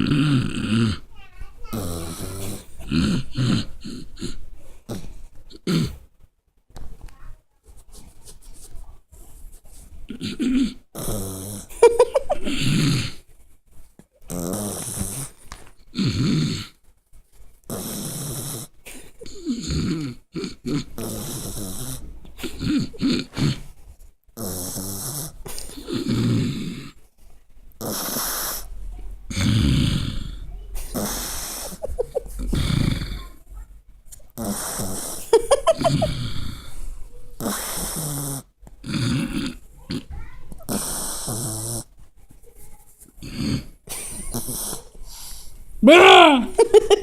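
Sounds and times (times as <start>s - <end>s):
puppy snoring: 0.0s - 6.1s, 10.1s - 13.4s, 14.2s - 16.9s, 17.6s - 27.1s, 27.7s - 33.6s, 34.2s - 42.0s, 43.0s - 45.5s.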